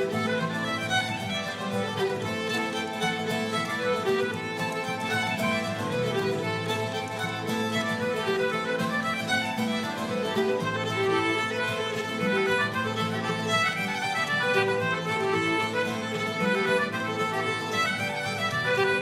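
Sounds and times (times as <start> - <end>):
fast fiddle reel: 0.0 - 19.0.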